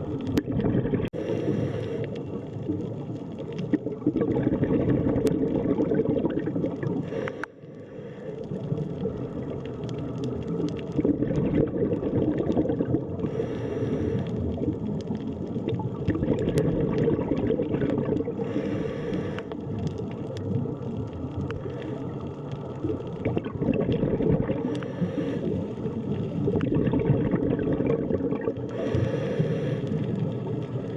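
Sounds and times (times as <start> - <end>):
low underwater noise: 0.0 - 30.9
small underwater clicks: 0.0 - 30.9.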